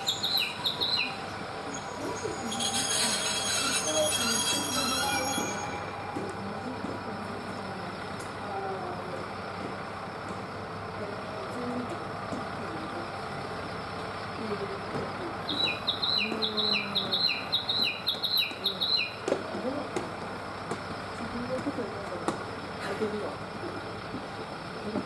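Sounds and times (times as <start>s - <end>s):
diesel railcar engine idling: 0.0s - 25.0s.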